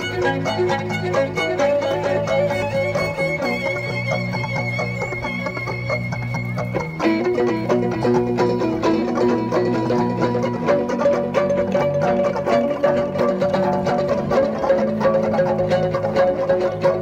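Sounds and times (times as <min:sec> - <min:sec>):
electric guitar chords: 0:00.0 - 0:17.0
violin plucked pizzicato: 0:00.0 - 0:17.0.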